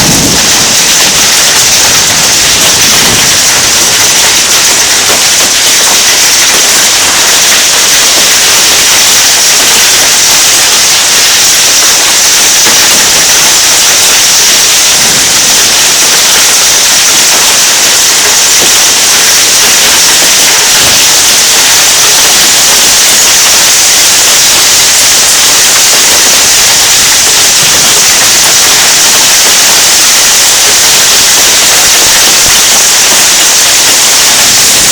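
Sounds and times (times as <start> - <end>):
hail and heavy rain pelting: 0.0 - 34.9.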